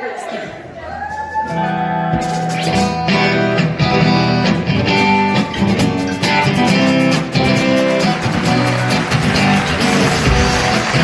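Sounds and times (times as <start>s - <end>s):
steady drum beat: 1.1s - 11.0s
rock music with guitars: 1.6s - 11.0s.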